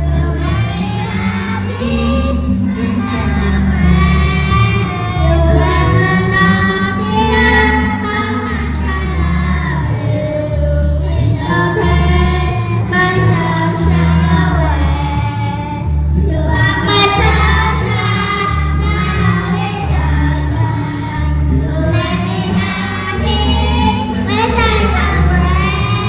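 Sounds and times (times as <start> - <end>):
children singing: 0.0 - 26.0.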